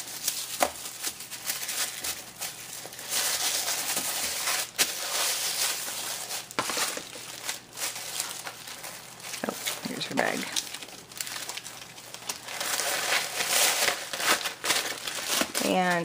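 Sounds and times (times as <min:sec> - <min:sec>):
paper pages rustling: 0:00.0 - 0:16.0.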